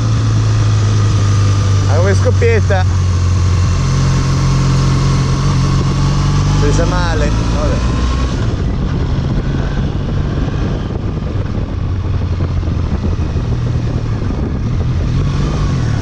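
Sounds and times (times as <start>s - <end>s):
motorcycle engine running: 0.0s - 16.0s
steady rushing noise: 0.0s - 16.0s.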